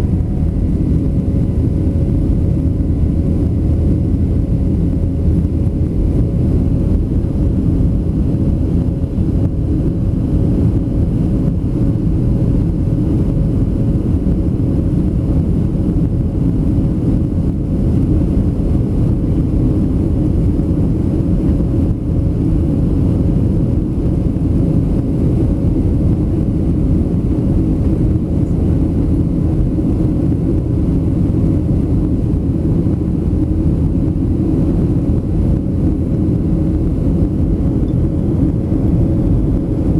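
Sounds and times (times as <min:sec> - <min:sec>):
airplane cabin rumble: 0:00.0 - 0:39.9
faint steady hum: 0:00.0 - 0:39.9.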